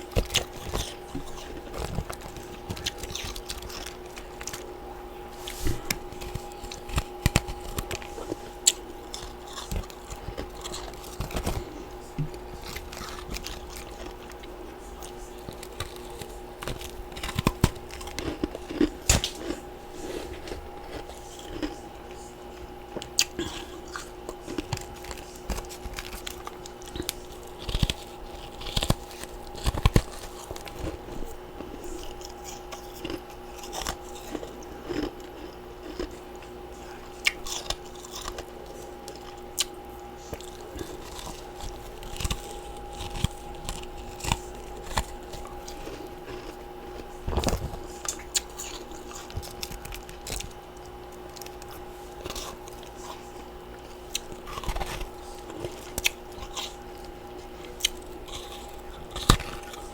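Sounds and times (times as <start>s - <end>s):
chewing ice crunches: 0.0s - 59.9s
faint steady hum: 0.0s - 59.9s.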